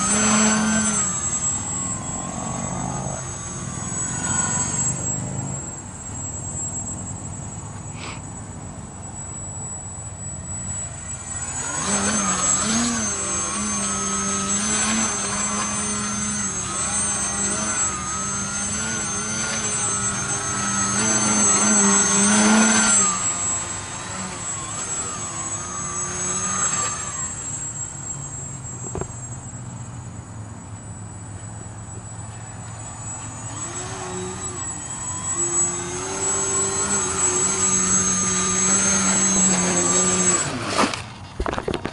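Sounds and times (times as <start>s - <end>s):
model plane motor buzzing: 0.0s - 41.9s.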